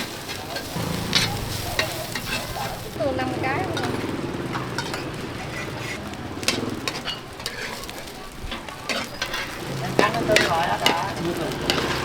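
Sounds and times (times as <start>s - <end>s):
food sizzling in a pan: 0.0s - 12.0s
metal utensil scraping a pan: 0.0s - 12.0s.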